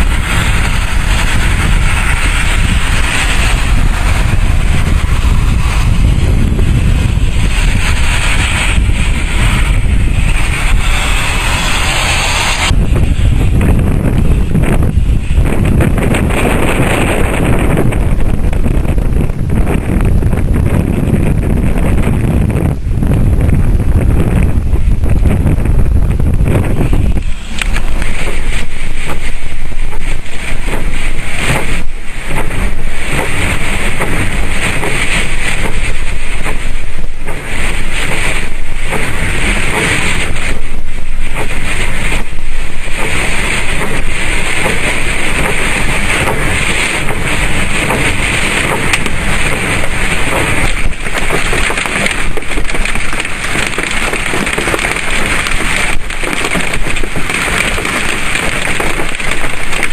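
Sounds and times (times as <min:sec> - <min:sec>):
storm wind buffeting microphone: 0:00.0 - 0:59.9.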